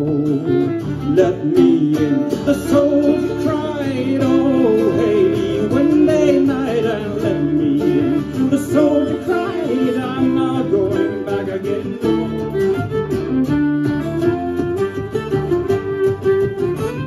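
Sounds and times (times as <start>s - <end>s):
acoustic guitar strumming: 0.0s - 17.0s
fiddle bowing: 0.0s - 17.0s.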